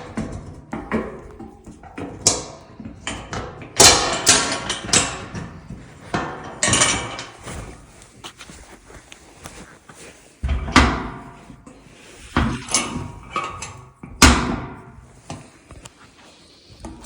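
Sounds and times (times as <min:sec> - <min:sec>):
camping gear knocking and clattering: 0:00.0 - 0:15.4.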